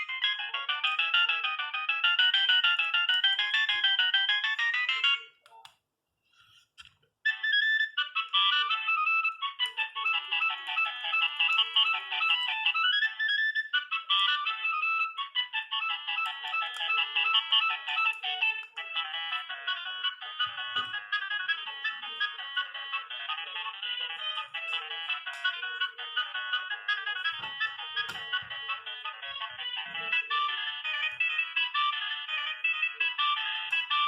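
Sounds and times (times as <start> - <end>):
polyphonic phone ringtones: 0.0 - 5.4, 7.3 - 34.0.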